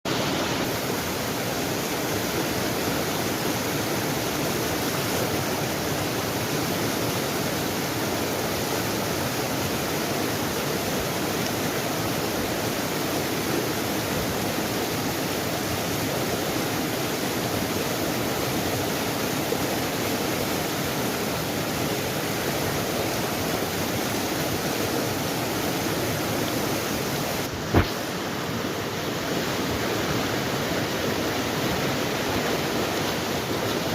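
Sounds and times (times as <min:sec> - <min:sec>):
rushing stream water: 0:00.1 - 0:33.9.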